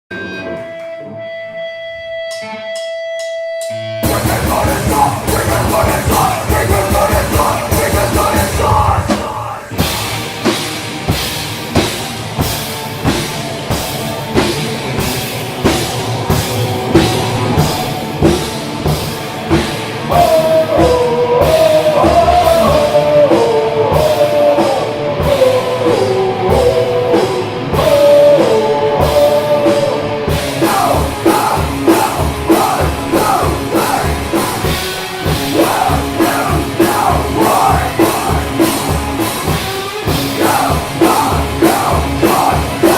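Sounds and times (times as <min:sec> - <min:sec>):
rock band playing live: 0:00.1 - 0:42.9
drum kit beat: 0:02.1 - 0:42.9.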